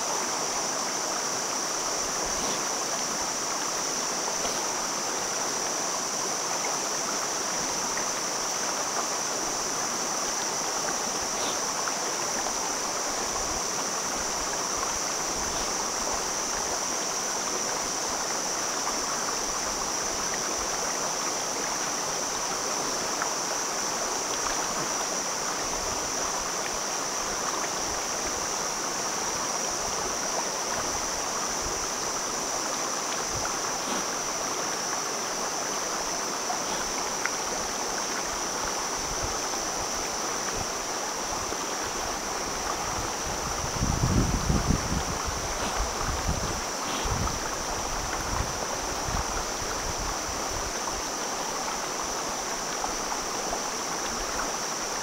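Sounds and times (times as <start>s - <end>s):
high-pitched hiss: 0.0s - 55.0s
stream rushing over rocks: 0.0s - 55.0s.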